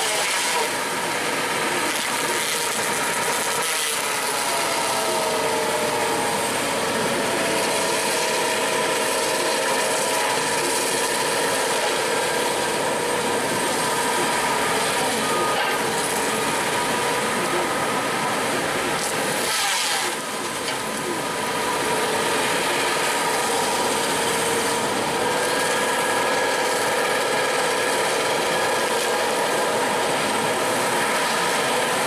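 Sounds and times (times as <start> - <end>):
motorised machine running: 0.0 - 32.0.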